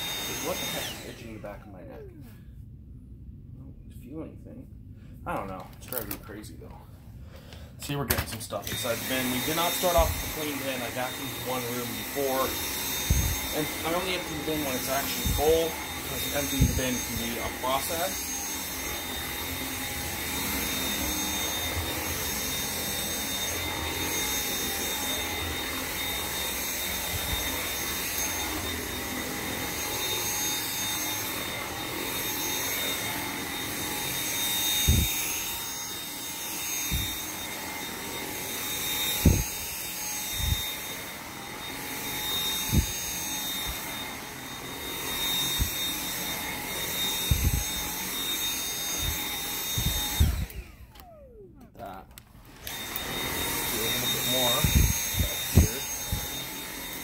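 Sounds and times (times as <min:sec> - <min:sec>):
cordless vacuum whining: 0:00.0 - 0:01.8, 0:07.3 - 0:57.0.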